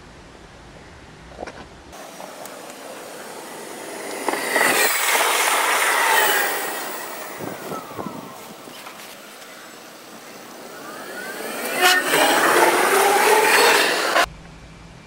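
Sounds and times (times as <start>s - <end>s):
passenger train passing with whine: 2.0s - 15.0s.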